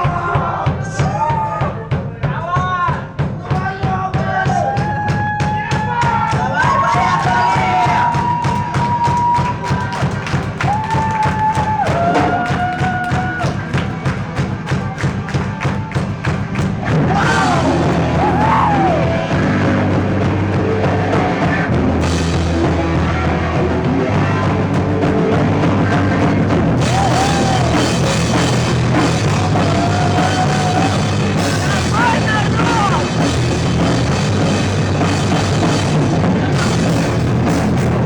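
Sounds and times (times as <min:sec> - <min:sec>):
drum kit steady beat: 0:00.0 - 0:38.0
rock band playing live: 0:06.0 - 0:38.0.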